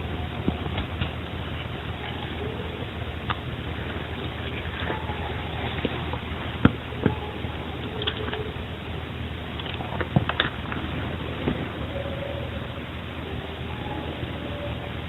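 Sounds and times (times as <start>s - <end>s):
low hum: 0.0s - 15.0s
steady hiss: 0.0s - 15.0s.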